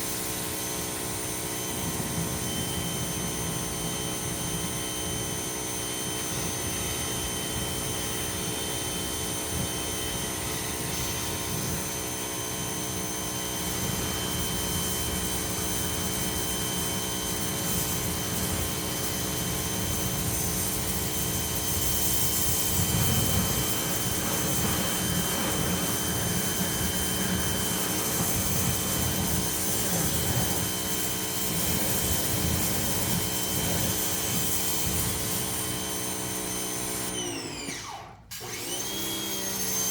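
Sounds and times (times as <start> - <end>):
pressure washer motor whining: 0.0 - 39.9.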